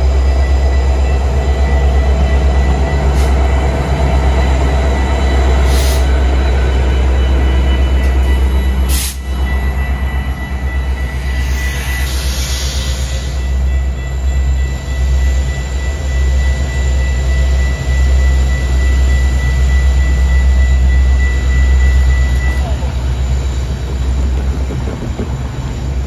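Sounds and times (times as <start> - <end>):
high-pitched whine: 0.0 - 26.0
train rumbling: 0.0 - 26.0.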